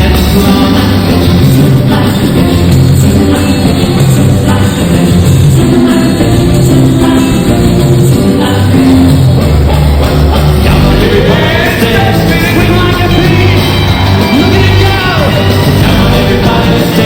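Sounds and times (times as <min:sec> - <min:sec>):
live rock band music: 0:00.0 - 0:17.0
person singing: 0:00.0 - 0:17.0
sliding pitch lines: 0:00.0 - 0:17.0.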